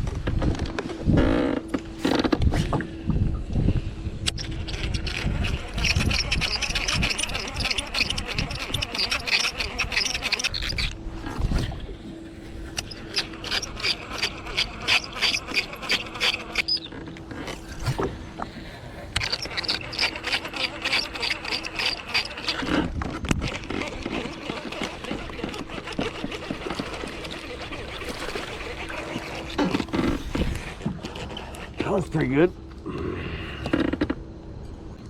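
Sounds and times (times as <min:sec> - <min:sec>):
steady low hum: 0:00.0 - 0:35.0
fishing reel squeaking and grinding: 0:04.3 - 0:32.5.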